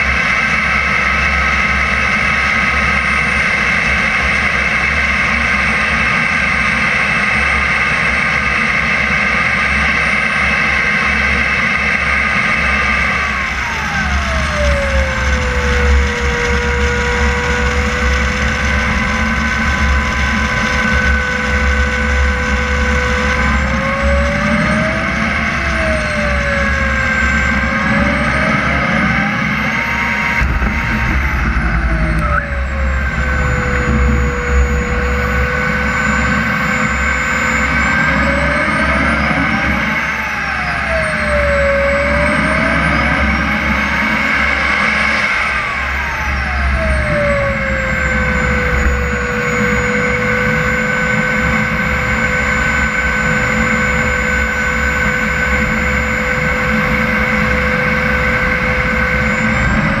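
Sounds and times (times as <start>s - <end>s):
model jet turbine whining: 0.0s - 60.0s
wheels rumbling on runway: 0.0s - 60.0s.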